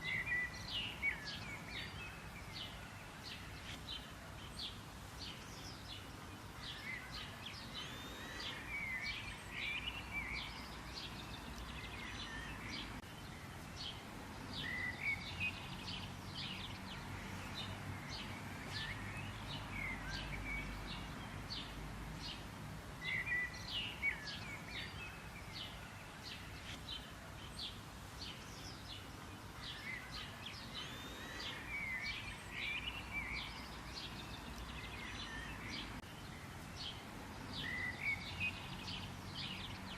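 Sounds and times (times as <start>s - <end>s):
birds chirping and twittering: 0.0s - 39.9s
faint background hiss: 0.0s - 39.9s.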